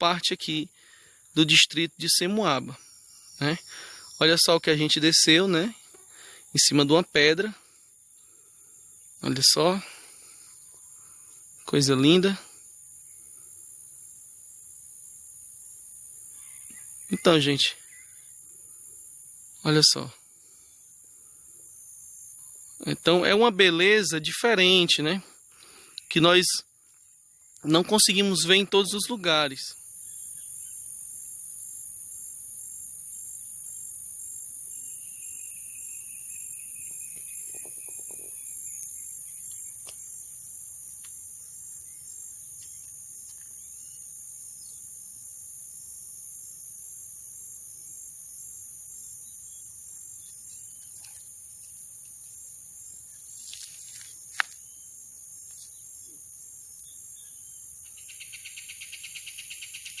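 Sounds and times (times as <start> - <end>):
insects chorus: 0.0 - 60.0.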